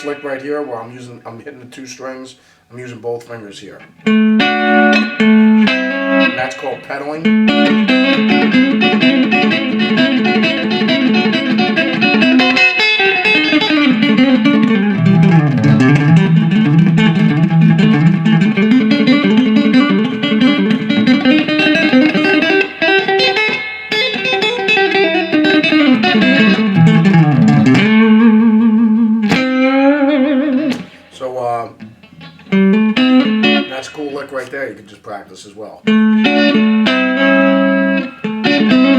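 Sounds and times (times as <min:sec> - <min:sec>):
electric guitar country lick: 0:00.0 - 0:02.1, 0:03.5 - 0:38.9.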